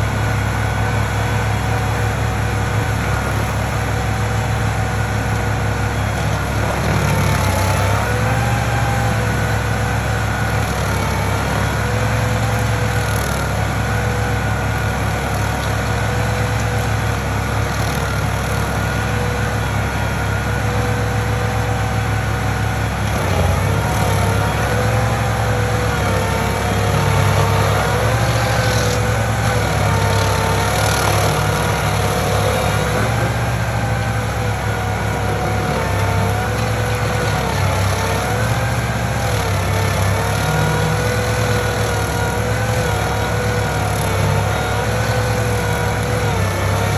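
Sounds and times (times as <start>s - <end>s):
machine engine running loudly: 0.0s - 46.9s.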